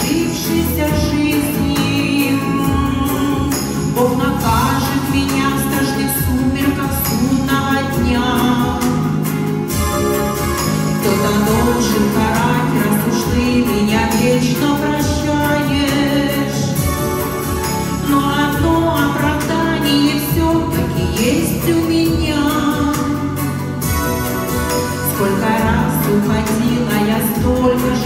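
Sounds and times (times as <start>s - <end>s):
woman singing into a microphone: 0.0s - 9.8s, 10.9s - 28.0s
backing track with steady beat: 0.0s - 28.0s.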